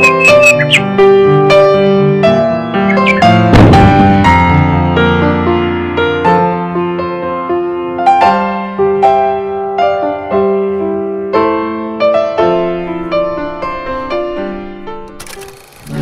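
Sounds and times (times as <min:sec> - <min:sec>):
slow piano music: 0:00.0 - 0:15.2.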